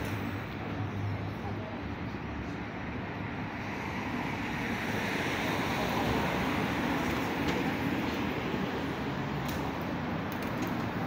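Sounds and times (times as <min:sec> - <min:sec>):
hiss of road traffic: 0:00.0 - 0:11.0.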